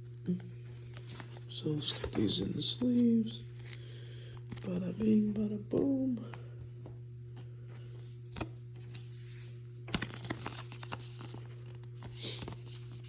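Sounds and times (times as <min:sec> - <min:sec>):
steady low hum: 0:00.0 - 0:13.0
plastic sleeves rustling: 0:00.6 - 0:06.2, 0:07.9 - 0:13.0.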